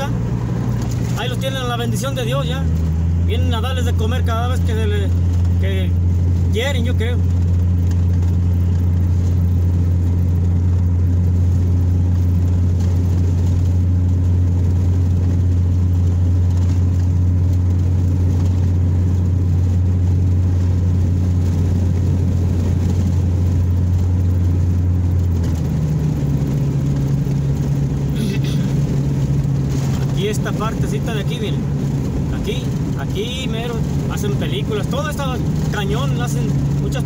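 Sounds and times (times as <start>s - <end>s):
vehicle engine and road noise: 0.0s - 37.0s.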